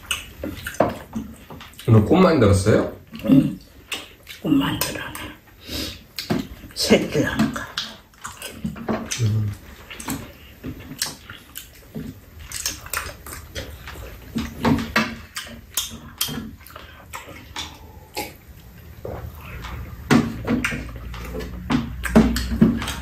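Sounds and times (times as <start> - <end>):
wet chewing and slurping: 0.0 - 23.0.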